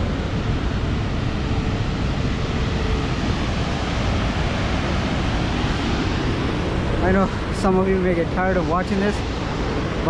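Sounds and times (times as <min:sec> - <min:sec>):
wind on microphone: 0:00.0 - 0:10.0.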